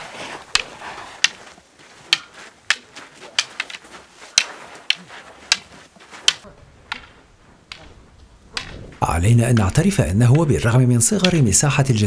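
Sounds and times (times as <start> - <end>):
wooden staffs clacking together: 0.4 - 11.8.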